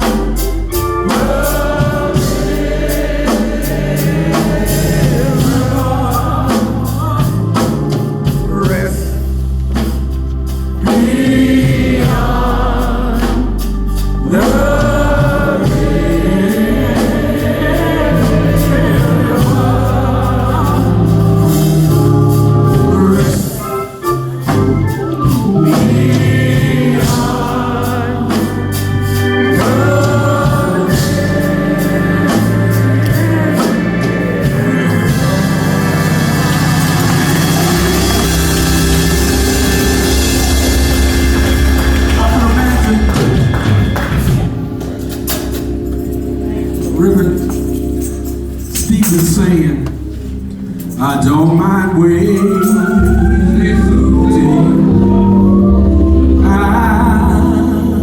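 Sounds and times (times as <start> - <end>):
choir singing gospel: 0.0 - 58.0
organ with strong bass: 0.0 - 58.0.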